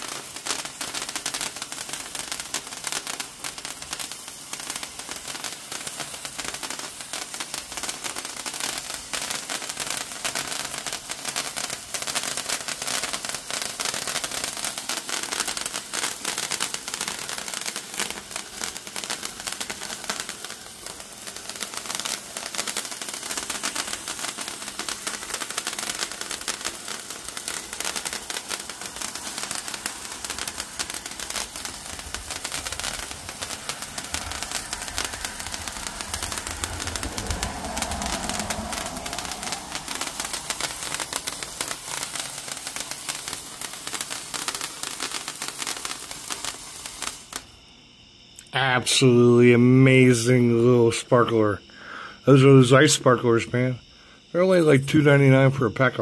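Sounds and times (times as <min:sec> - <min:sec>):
sparkler crackling: 0:00.0 - 0:47.7, 0:48.3 - 0:51.6, 0:52.2 - 0:53.8, 0:54.4 - 0:56.0.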